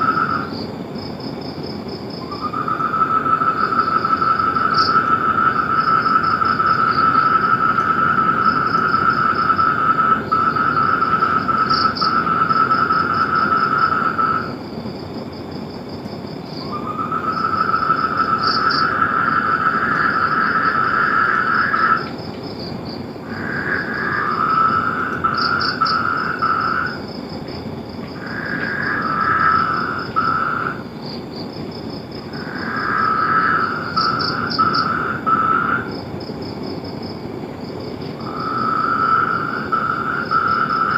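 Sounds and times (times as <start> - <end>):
frogs trilling: 0.0 - 40.9.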